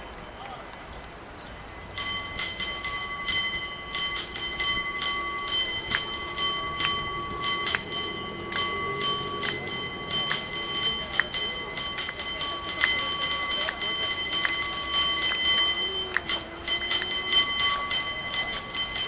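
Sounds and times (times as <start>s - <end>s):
cable car bell ringing: 0.0s - 19.0s.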